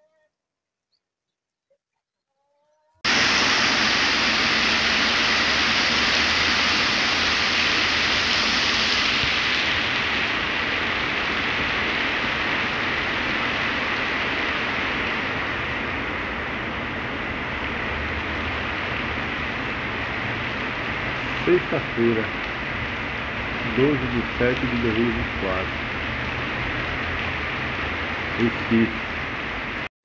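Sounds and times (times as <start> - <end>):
heavy rain: 3.0 - 29.9.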